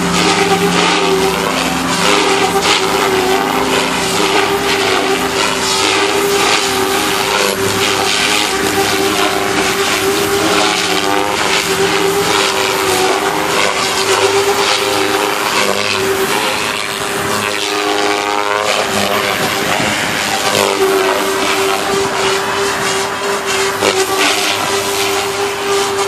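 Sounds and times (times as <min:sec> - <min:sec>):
rc helicopter motor whine: 0:00.0 - 0:26.0
rotor blades rushing: 0:00.0 - 0:26.0.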